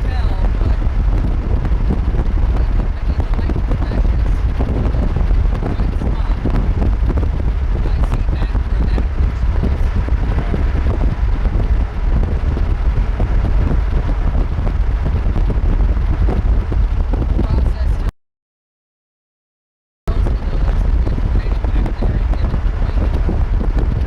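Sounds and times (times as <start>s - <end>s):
wind buffeting microphone: 0.0s - 18.1s, 20.1s - 24.0s.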